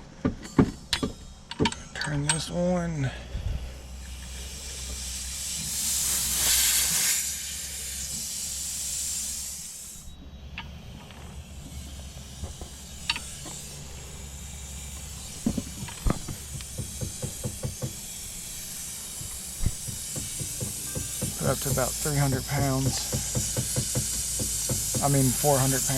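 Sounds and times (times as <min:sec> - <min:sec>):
gas hissing from regulator: 0:03.5 - 0:25.9.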